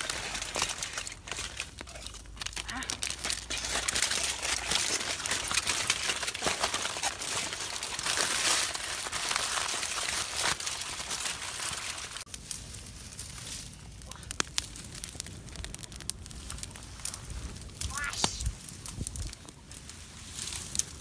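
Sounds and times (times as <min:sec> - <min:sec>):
aluminium foil crinkling: 0:00.0 - 0:21.0.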